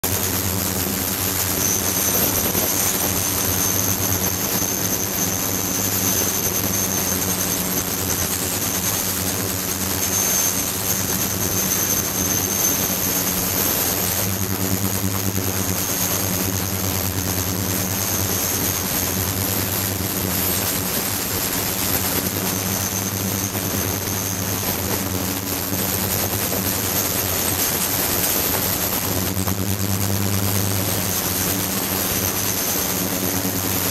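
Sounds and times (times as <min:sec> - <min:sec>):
high-pitched whine: 0:00.1 - 0:33.9.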